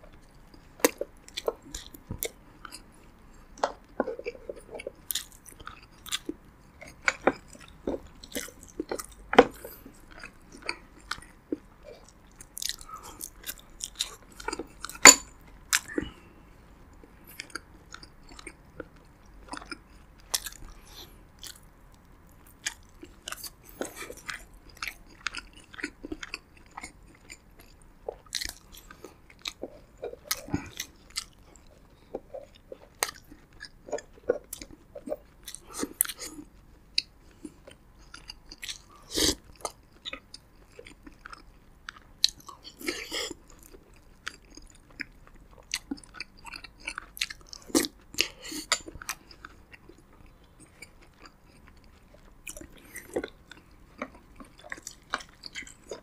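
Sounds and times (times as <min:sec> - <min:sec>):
close chewing and mouth smacks: 0:00.0 - 0:56.0.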